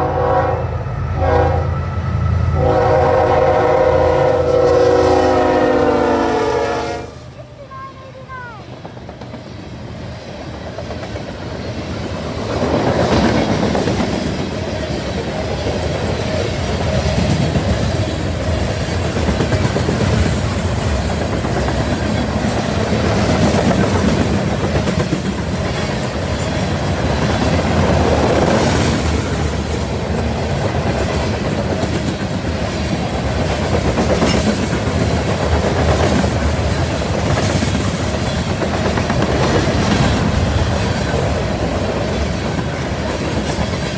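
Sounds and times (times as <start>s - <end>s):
train wheels clattering on rails: 8.6s - 43.9s.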